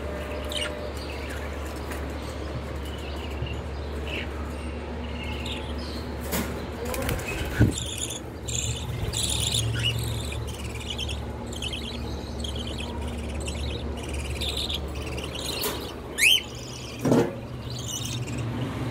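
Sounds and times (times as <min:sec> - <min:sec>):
birds chirping: 0:00.0 - 0:18.9.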